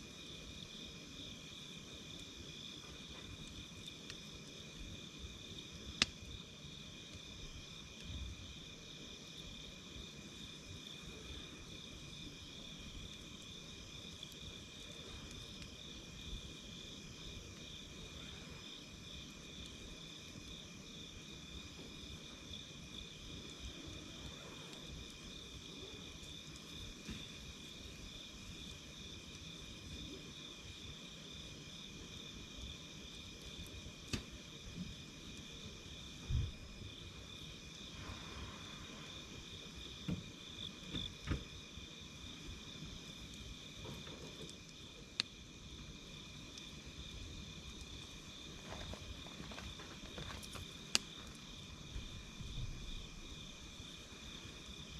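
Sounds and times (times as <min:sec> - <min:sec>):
campfire crackles and pops: 0:00.0 - 0:38.2, 0:39.1 - 0:54.9
campfire rumble: 0:00.0 - 0:54.9
insects chirring: 0:00.0 - 0:54.9.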